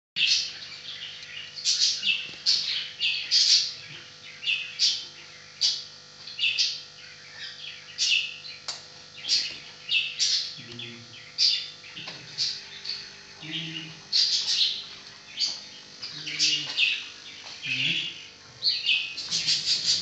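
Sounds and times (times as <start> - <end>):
bird chirping: 0.2 - 20.0.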